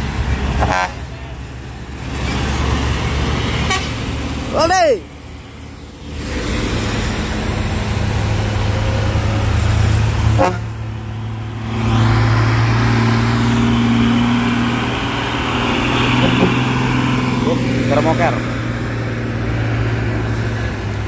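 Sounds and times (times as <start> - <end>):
heavy vehicle engines running: 0.0 - 21.0.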